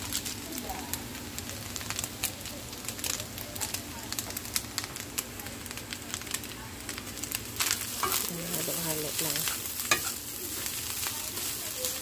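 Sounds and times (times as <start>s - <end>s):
food sizzling in a frying pan: 0.0s - 12.0s
oil crackling and popping: 0.0s - 12.0s.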